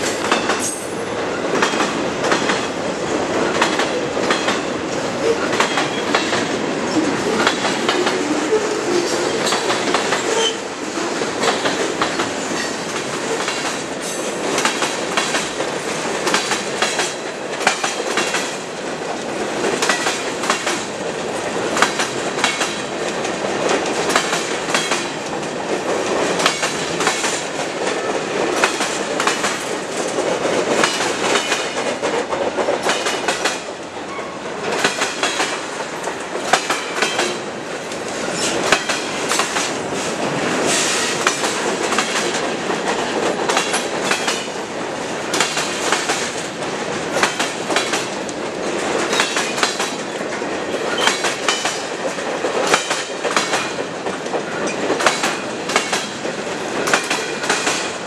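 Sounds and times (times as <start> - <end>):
train rumble and rattle: 0.0 - 58.0
wheels clacking over rail joints: 0.0 - 58.0.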